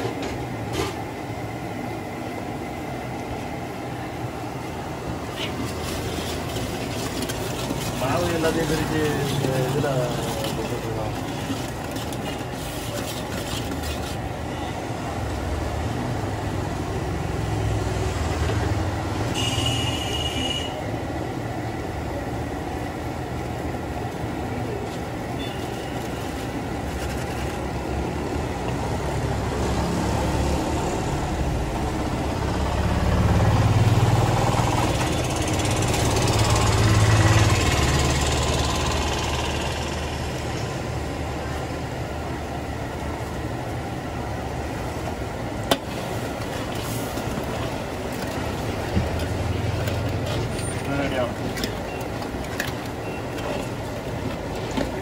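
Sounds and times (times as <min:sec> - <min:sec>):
road traffic: 0:00.0 - 0:55.0
vehicles passing close: 0:00.0 - 0:55.0.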